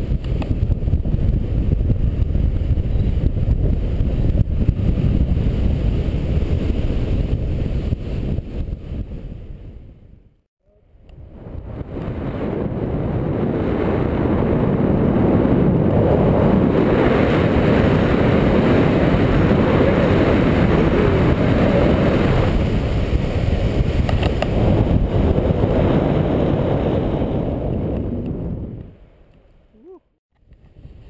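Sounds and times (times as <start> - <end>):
wind rushing over microphone: 0.0 - 29.4, 30.4 - 31.0.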